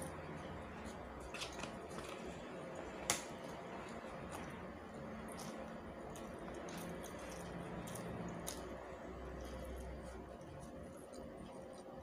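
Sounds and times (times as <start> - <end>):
chopsticks clicking and scraping: 0.0 - 12.0.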